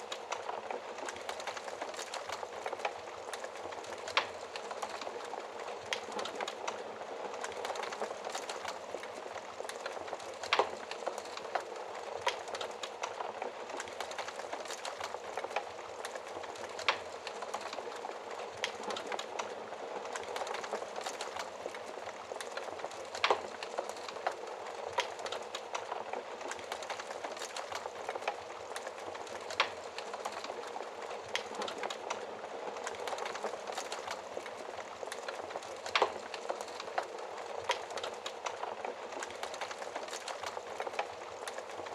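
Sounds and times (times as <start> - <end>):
soft steady hiss: 0.0 - 41.9
wood fire crackling: 0.0 - 41.9.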